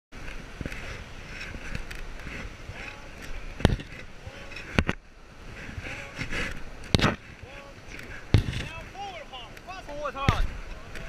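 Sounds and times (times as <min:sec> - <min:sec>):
raft being paddled: 0:00.1 - 0:11.0
river rushing: 0:00.1 - 0:11.0.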